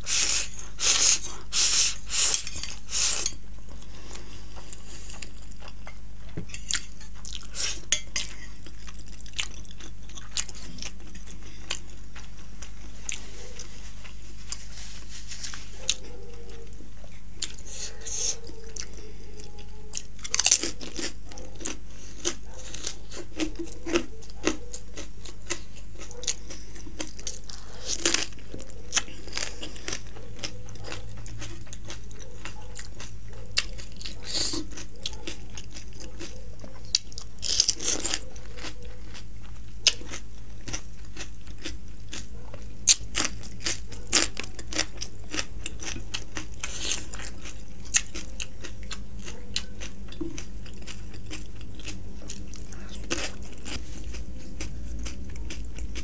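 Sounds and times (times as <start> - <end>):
crunching and chewing crisp shells: 0.0 - 56.0
steady low hum: 0.0 - 56.0.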